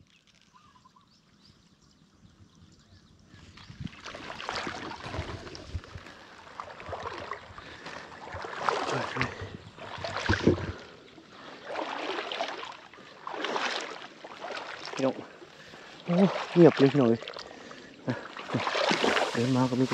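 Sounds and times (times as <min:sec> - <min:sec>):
wading through shallow water: 0:03.2 - 0:19.9.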